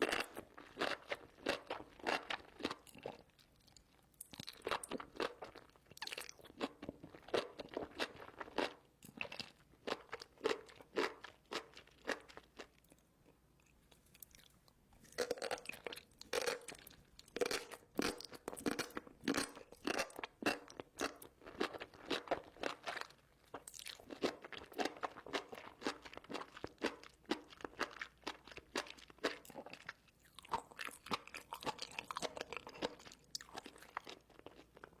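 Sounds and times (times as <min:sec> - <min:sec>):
person chewing crunchy mushrooms: 0:00.0 - 0:13.0, 0:13.6 - 0:35.0.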